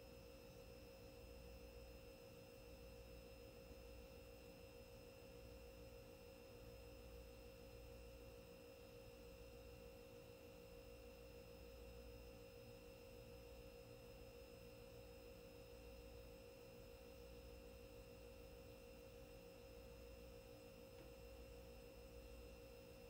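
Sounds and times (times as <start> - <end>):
faint steady tone: 0.0 - 23.0.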